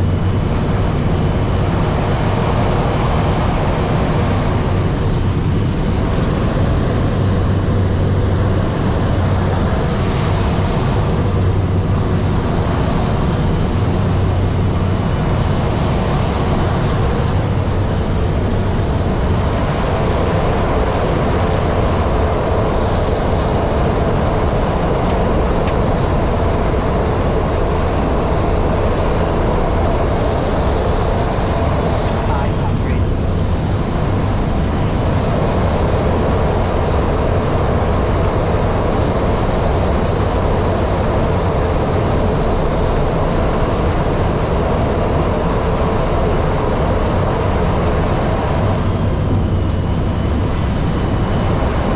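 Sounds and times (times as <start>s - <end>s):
airliner cabin noise: 0.0s - 51.9s
low hum: 0.0s - 51.9s.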